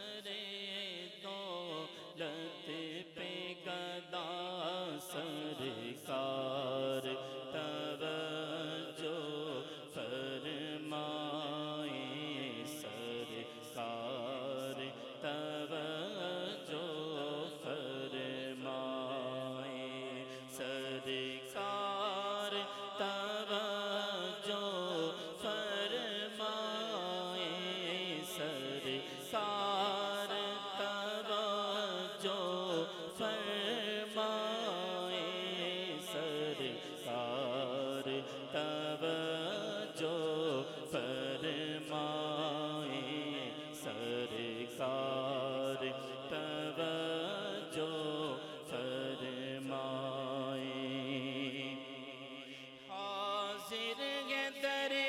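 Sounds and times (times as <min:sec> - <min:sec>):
man singing devotional chant: 0:00.0 - 0:55.0.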